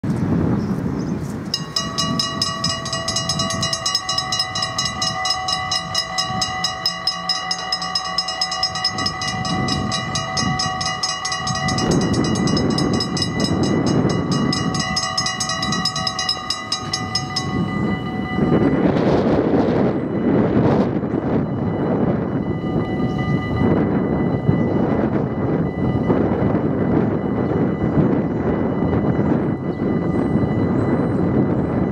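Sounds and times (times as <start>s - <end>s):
steady warning tones: 1.5s - 31.9s
level-crossing bells ringing: 1.6s - 31.9s.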